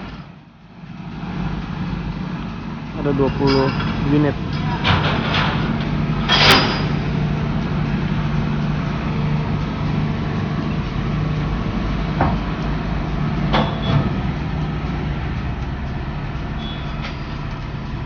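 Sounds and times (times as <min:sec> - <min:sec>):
diesel machinery running: 0:00.0 - 0:18.0.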